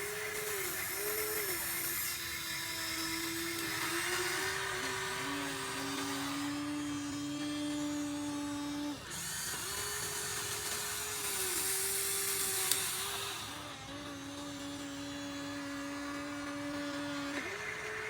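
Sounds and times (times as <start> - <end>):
electric gear motors whining: 0.0 - 18.0.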